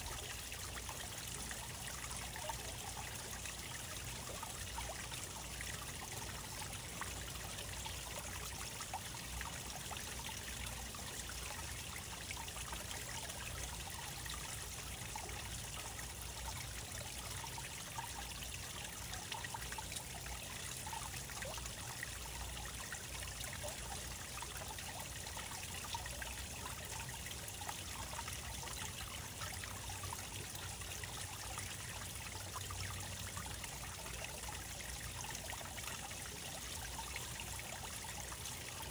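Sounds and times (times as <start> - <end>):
water trickling into aquarium: 0.0 - 38.9.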